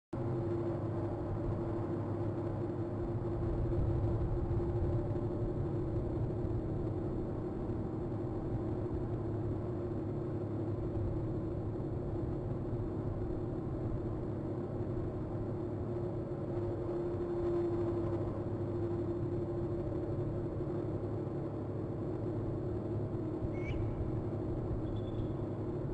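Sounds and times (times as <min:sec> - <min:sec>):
constant hum: 0:00.1 - 0:25.9
low rumble and hiss: 0:00.2 - 0:25.9.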